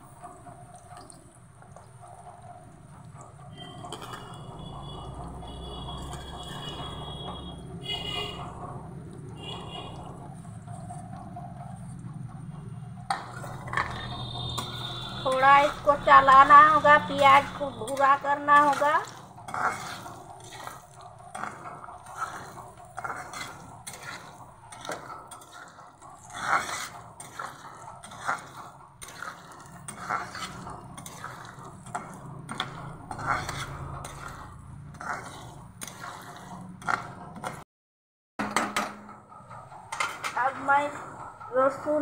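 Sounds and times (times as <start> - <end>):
steel spatula scraping a pan: 2.2 - 37.6.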